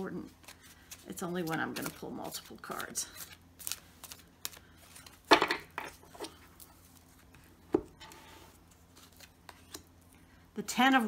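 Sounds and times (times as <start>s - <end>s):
cards shuffling: 0.2s - 9.9s.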